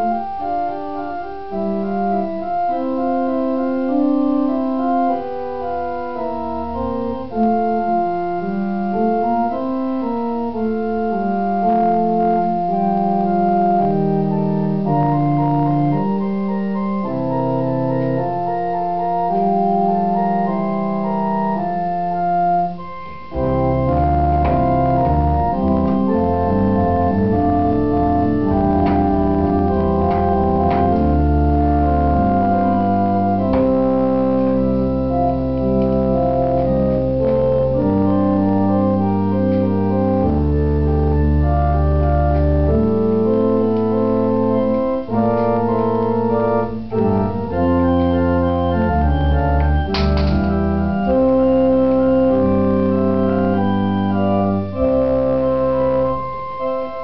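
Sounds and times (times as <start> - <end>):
organ playing chords: 0.0 - 57.0.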